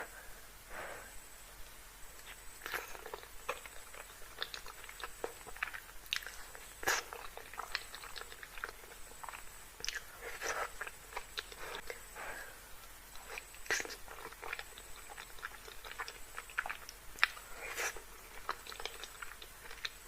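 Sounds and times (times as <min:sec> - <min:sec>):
close chewing mouth smacks: 0:02.2 - 0:12.0, 0:12.8 - 0:20.0.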